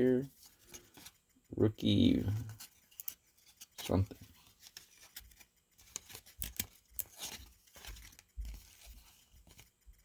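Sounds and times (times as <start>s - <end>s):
trading cards clicking and rustling: 0.0s - 10.0s.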